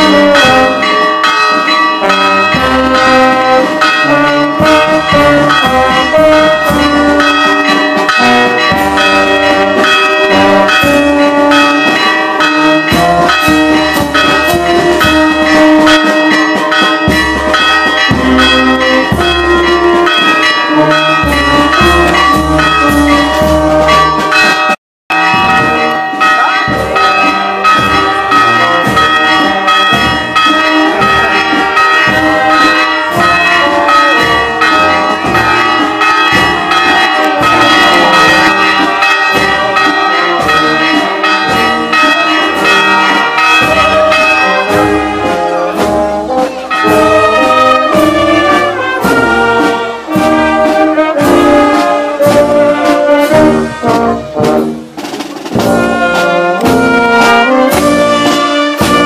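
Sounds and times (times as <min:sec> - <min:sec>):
brass band playing: 0:00.0 - 0:59.0
church bells ringing: 0:00.0 - 0:59.0.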